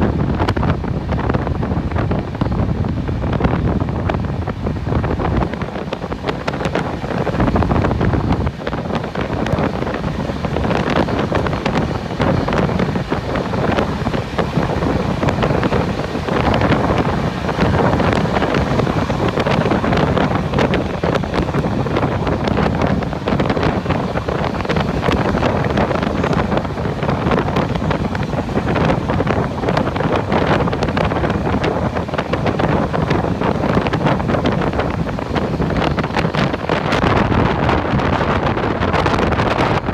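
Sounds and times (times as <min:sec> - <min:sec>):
moving train running noise: 0:00.0 - 0:39.9
wind buffeting microphone: 0:00.0 - 0:39.9.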